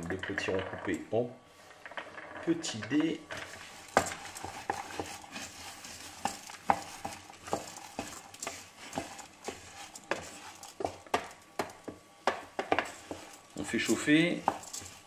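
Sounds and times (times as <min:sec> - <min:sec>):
oil sizzling: 0:00.0 - 0:15.0
wooden spoon scraping saucepan: 0:01.6 - 0:15.0.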